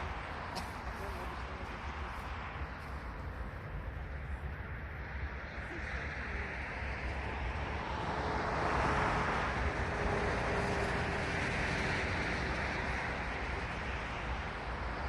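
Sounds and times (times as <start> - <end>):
passing vehicle: 0.0 - 15.0.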